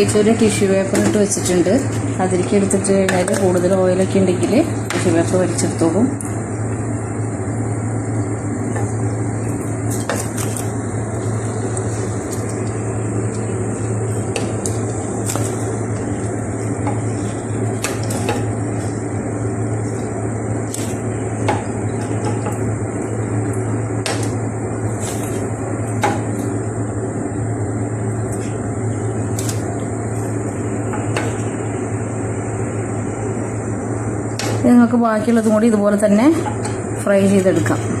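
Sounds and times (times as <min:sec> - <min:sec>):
steady hiss and hum: 0:00.0 - 0:38.0.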